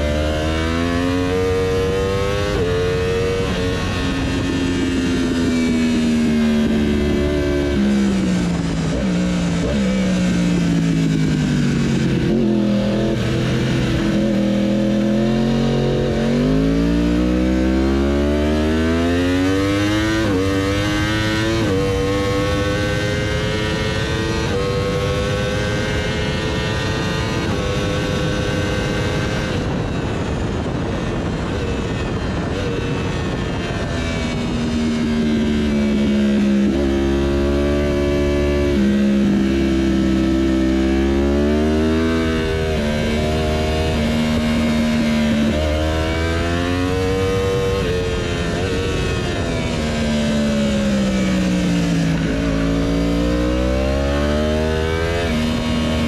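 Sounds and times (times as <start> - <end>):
motorcycle engine revving: 0.0 - 56.0
wind rush: 0.4 - 17.4, 18.7 - 56.0.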